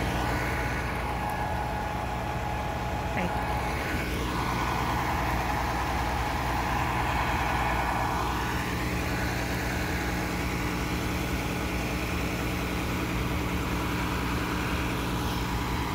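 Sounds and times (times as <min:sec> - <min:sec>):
heavy vehicle engine idling: 0:00.0 - 0:15.9
high whir: 0:00.0 - 0:15.9.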